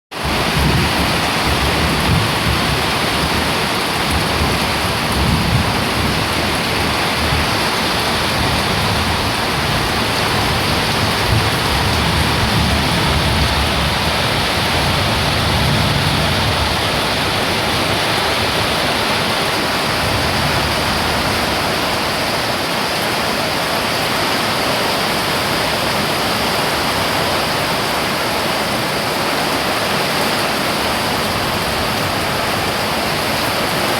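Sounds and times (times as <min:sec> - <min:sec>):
strong wind gusts: 0:00.1 - 0:33.9
heavy rain hissing: 0:00.2 - 0:33.9.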